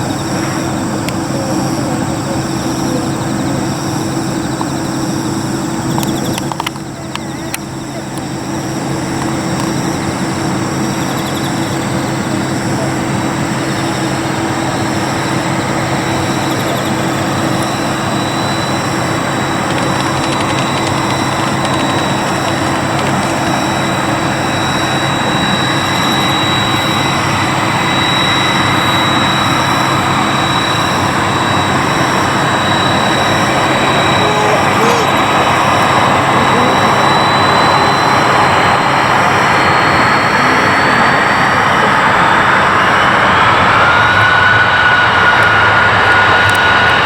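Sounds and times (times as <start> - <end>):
thin high whine: 0.0 - 43.4
airliner engines running: 0.0 - 47.0.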